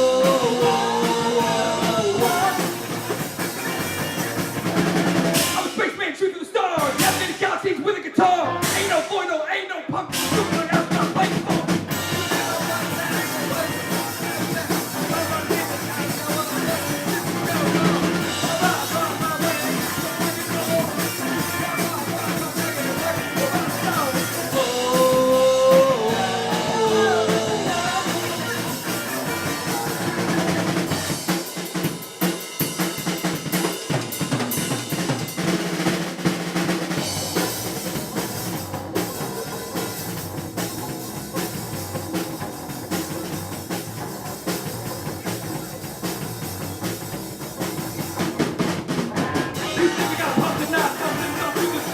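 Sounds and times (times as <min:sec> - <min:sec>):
rock funk band playing: 0:00.0 - 0:06.0, 0:06.8 - 0:09.3, 0:09.9 - 0:51.9.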